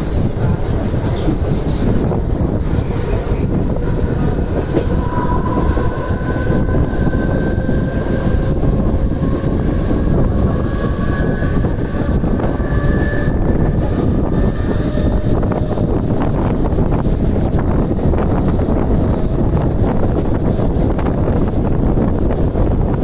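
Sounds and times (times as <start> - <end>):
rushing air: 0.0 - 23.0
train wheels rumbling on track: 0.0 - 23.0.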